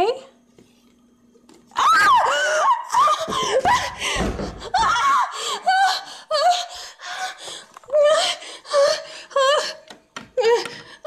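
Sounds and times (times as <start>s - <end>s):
woman sobbing: 2.1s - 11.0s.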